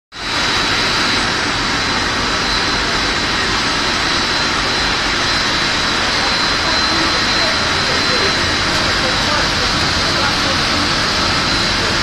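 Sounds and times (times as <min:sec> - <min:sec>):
factory machinery din: 0:00.2 - 0:12.0
thin high whine: 0:00.2 - 0:12.0.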